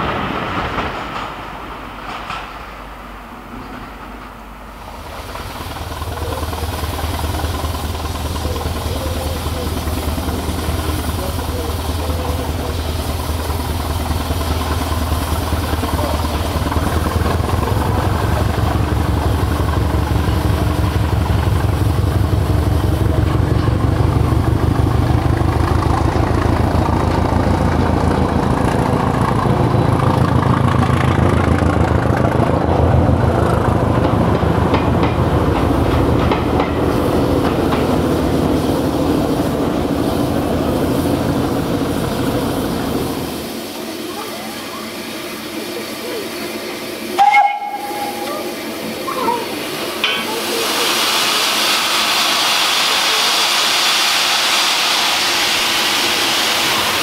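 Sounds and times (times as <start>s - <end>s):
diesel train engine pulsing: 0.0s - 57.0s.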